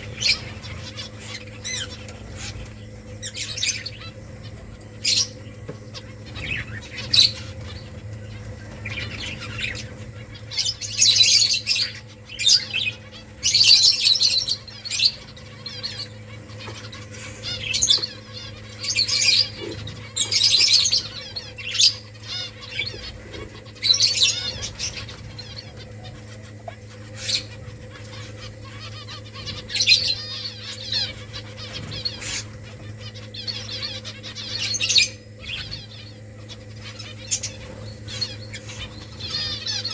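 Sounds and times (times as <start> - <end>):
finches chirping: 0.0 - 39.9
steady low hum: 0.0 - 39.9.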